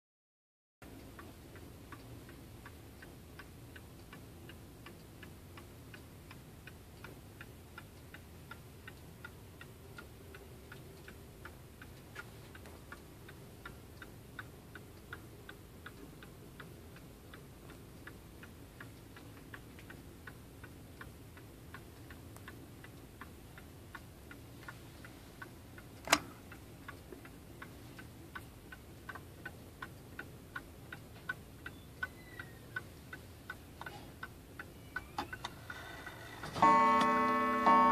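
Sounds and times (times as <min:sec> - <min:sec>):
mantel clock ticking: 0:00.8 - 0:37.9.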